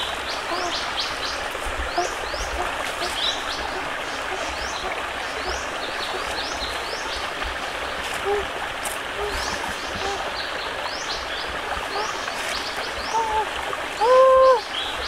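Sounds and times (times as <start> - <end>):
birds calling: 0.0 - 8.5, 9.1 - 15.0
distant stream rushing: 0.0 - 15.0.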